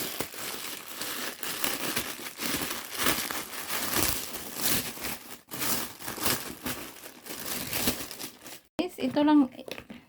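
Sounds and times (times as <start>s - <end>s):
gift packaging crinkling: 0.0s - 8.7s.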